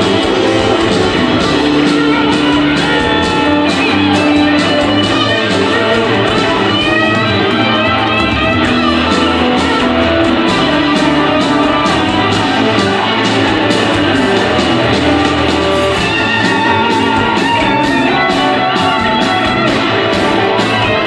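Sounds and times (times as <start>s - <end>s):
distant live blues band: 0.0s - 21.0s
sliding bent guitar notes: 0.0s - 21.0s.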